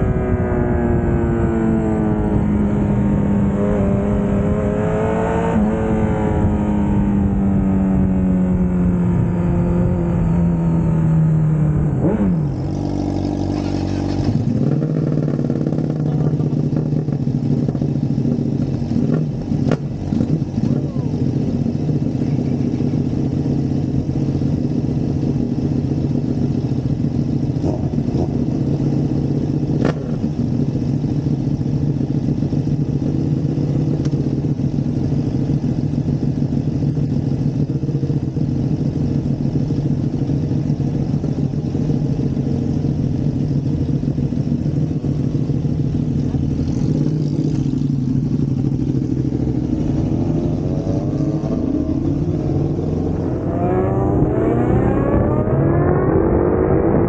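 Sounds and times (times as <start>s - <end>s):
motorcycle engine idling and revving: 0.0s - 57.0s
other motorcycles: 0.0s - 57.0s.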